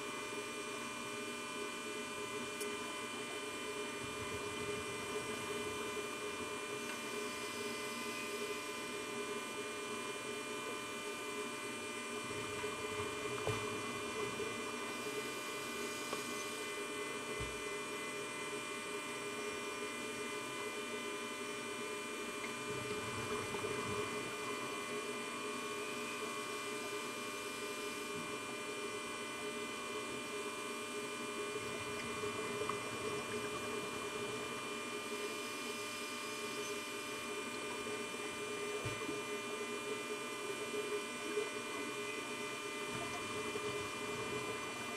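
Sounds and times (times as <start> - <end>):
electrical hum with whining tones: 0.0 - 44.9.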